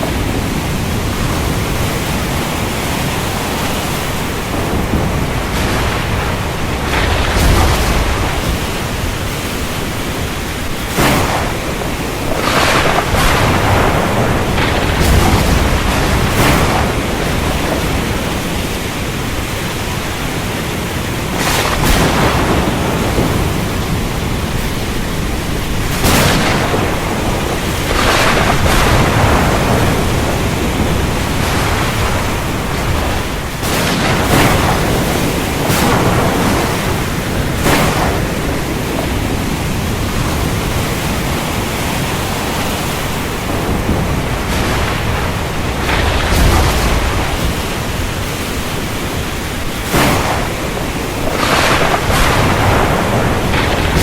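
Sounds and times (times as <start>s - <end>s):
heavy rain: 0.0s - 54.0s
thunder cracks: 0.0s - 54.0s.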